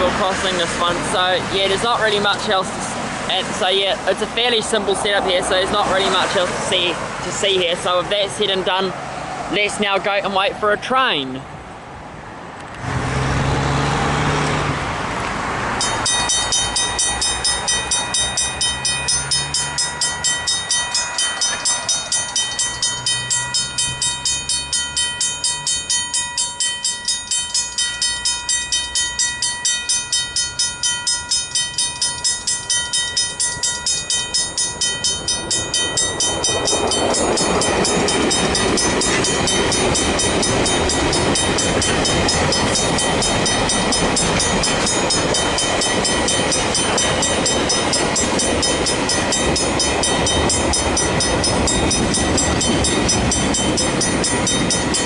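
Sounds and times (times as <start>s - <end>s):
level crossing bells ringing: 0.0s - 8.9s, 15.8s - 55.0s
train passing rumble: 0.0s - 55.0s.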